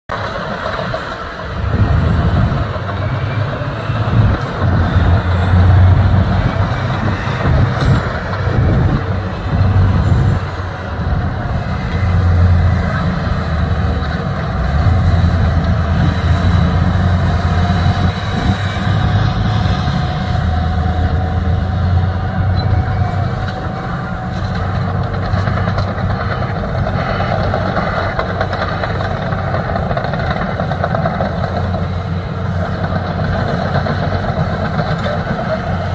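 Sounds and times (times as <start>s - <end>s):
heavy diesel engines running: 0.1s - 35.9s.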